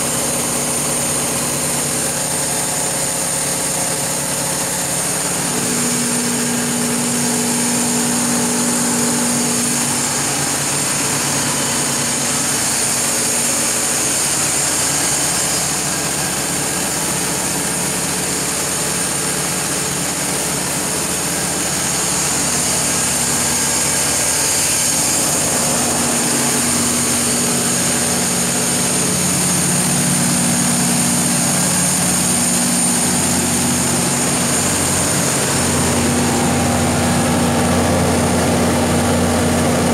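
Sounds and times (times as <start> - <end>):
diesel generator running: 0.0 - 39.9
high-pitched whine: 0.0 - 39.9.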